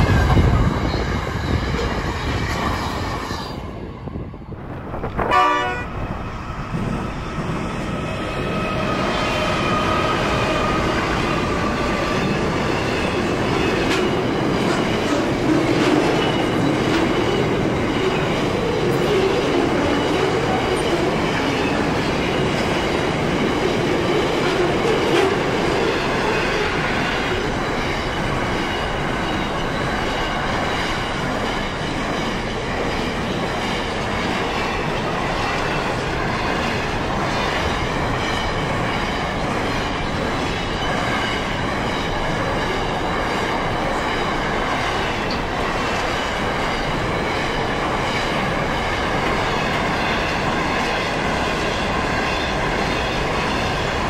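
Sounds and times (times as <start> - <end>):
freight wagons rumbling over rails: 0.0 - 54.0.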